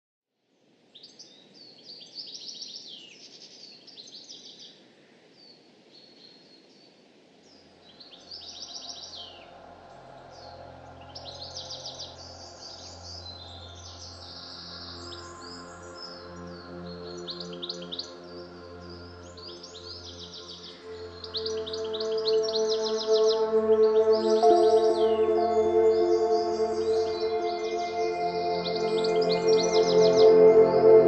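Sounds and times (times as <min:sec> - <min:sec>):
background hiss: 0:00.5 - 0:31.0.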